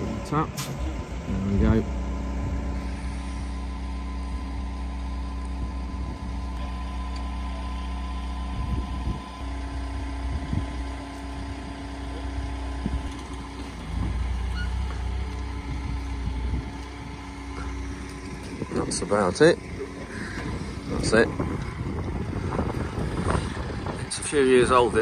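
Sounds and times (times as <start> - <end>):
engine idling: 0.0 - 25.0
hydraulics whirring: 0.0 - 25.0.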